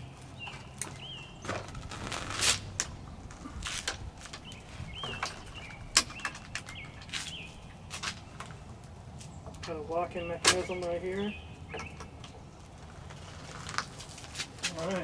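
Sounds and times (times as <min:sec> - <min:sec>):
birds chirping: 0:00.0 - 0:15.0
folding bike clicks and knocks: 0:00.4 - 0:08.6, 0:10.4 - 0:14.7.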